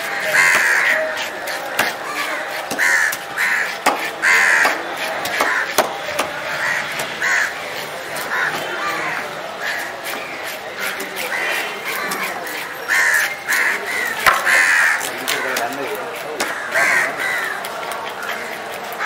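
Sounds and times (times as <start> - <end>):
crows cawing: 0.0 - 19.0.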